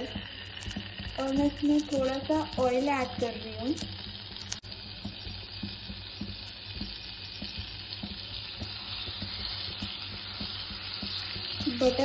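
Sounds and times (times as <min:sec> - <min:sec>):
butter sizzling in a pan: 0:00.0 - 0:12.0.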